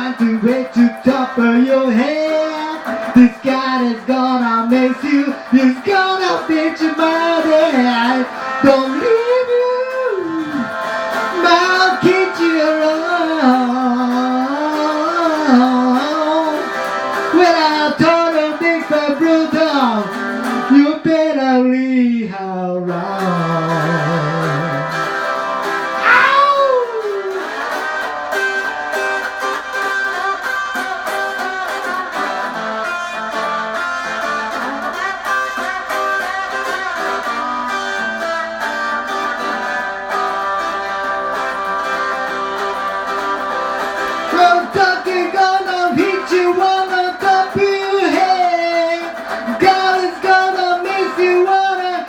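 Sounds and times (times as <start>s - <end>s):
rockabilly band music: 0.0s - 21.5s, 22.8s - 52.0s.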